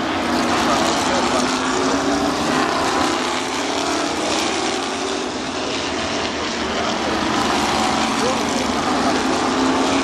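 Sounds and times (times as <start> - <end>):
racing car engines passing: 0.0 - 10.0.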